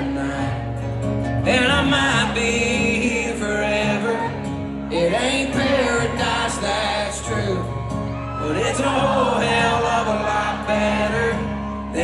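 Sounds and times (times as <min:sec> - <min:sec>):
live country band playing: 0:00.0 - 0:12.0
person singing: 0:01.4 - 0:12.0.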